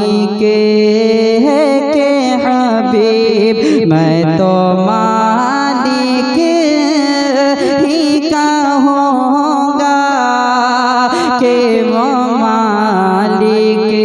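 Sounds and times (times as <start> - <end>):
man singing into microphone: 0.0 - 14.0.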